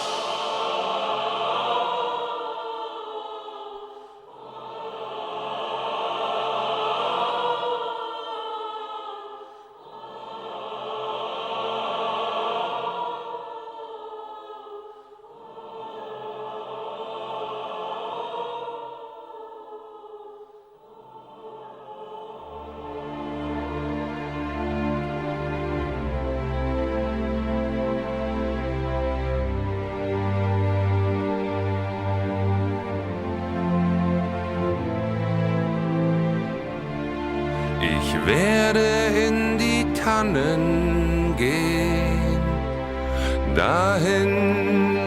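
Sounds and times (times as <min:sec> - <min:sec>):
choir-like sustained chords: 0:00.0 - 0:45.0.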